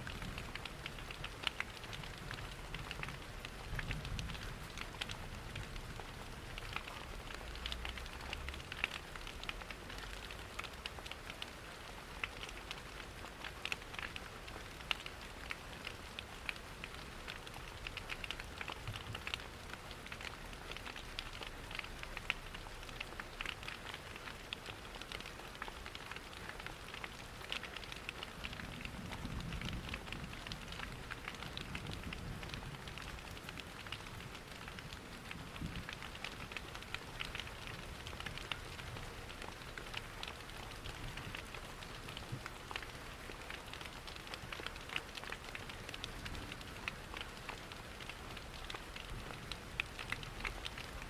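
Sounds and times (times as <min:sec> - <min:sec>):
rain pattering against windows: 0:00.0 - 0:51.0
crackling fireplace: 0:00.1 - 0:51.0.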